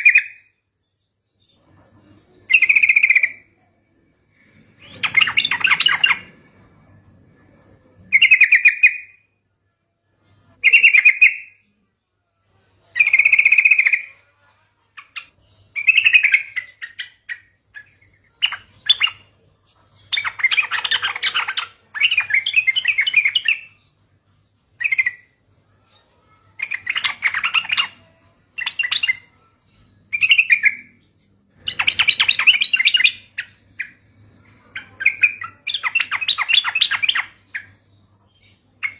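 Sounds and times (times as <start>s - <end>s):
bird song phrases: 0.0s - 38.9s.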